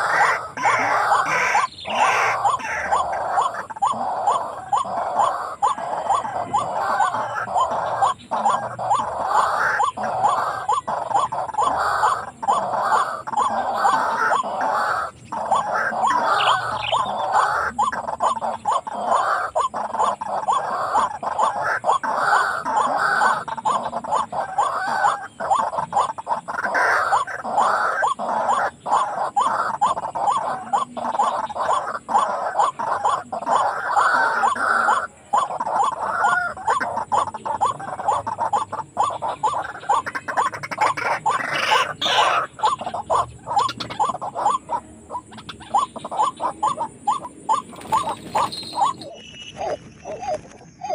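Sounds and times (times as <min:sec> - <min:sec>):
waterhen calling rapidly: 0:00.0 - 0:50.9.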